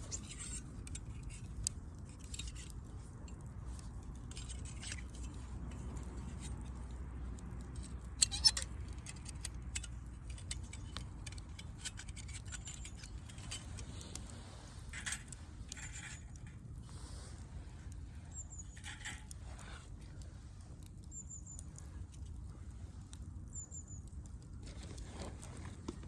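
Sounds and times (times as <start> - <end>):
firewood crackling: 0.0 - 26.0
low steady rumble: 0.0 - 26.0.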